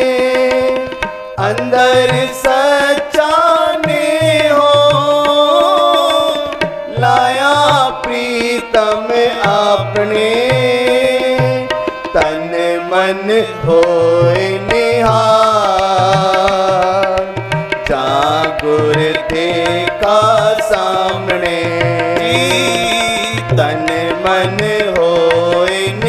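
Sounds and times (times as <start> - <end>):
harmonium chords: 0.0 - 26.0
man singing: 0.0 - 26.0
tabla drumming: 0.0 - 26.0.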